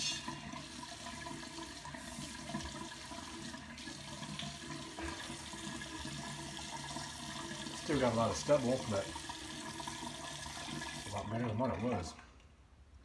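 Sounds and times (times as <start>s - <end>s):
tap water running into sink: 0.0s - 12.2s.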